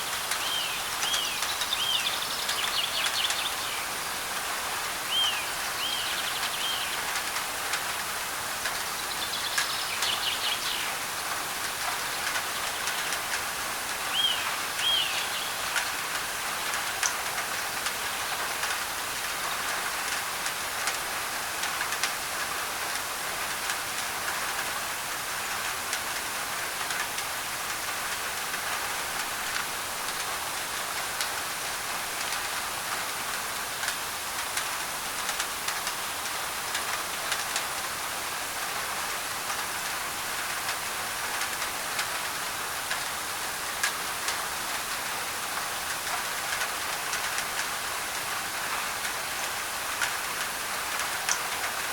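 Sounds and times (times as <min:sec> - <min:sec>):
rain on a tin roof: 0:00.0 - 0:51.9.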